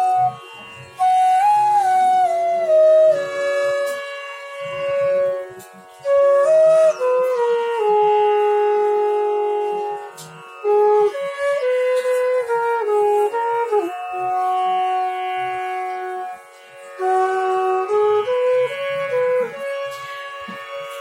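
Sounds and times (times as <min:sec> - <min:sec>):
bansuri flute melody: 0:00.0 - 0:21.0.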